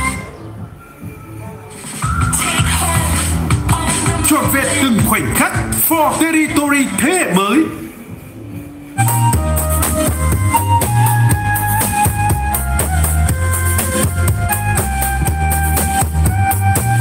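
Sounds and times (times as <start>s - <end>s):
music with drums and heavy bass: 0.0s - 17.0s.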